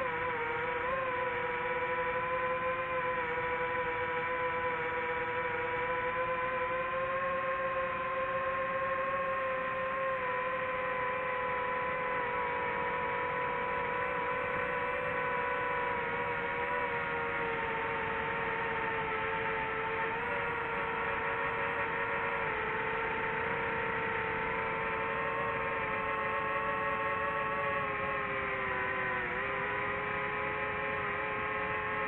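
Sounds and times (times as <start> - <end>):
drone propellers humming: 0.0 - 32.0.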